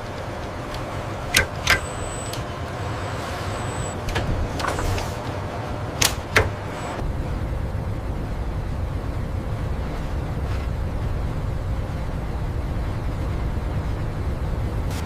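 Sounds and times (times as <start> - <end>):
factory machinery rumbling: 0.0 - 15.0.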